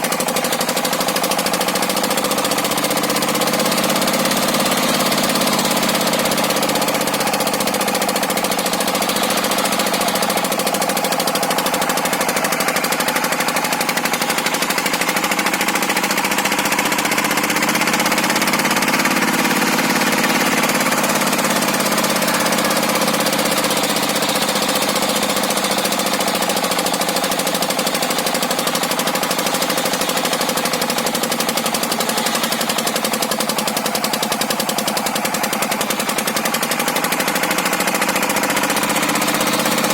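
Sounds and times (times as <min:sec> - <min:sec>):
saw cutting wood hiss: 0:00.0 - 0:39.9
sawmill engine chugging: 0:00.0 - 0:39.9.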